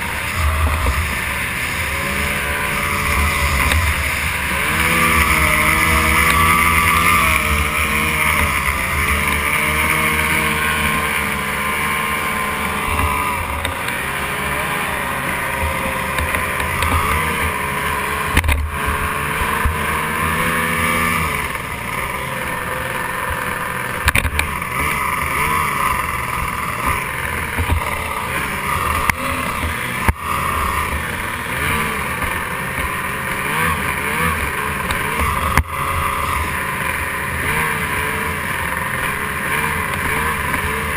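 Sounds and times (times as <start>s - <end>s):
racing outboard engine: 0.0s - 40.9s.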